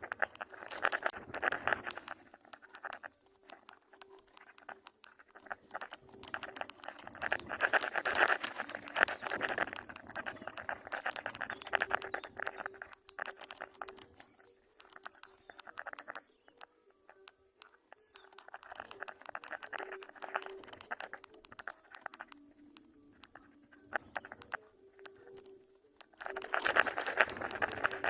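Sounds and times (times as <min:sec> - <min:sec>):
birds rustling in a nest: 0:00.0 - 0:28.0.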